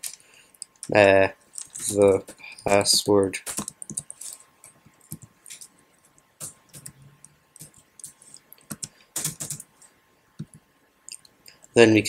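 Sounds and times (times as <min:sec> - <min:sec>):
computer keyboard typing: 0:00.0 - 0:09.8, 0:10.4 - 0:11.4.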